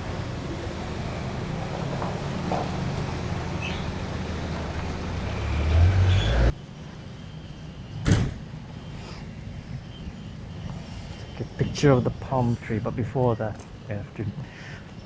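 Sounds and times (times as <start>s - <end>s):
vehicle engine rumble passing: 0.0s - 14.1s.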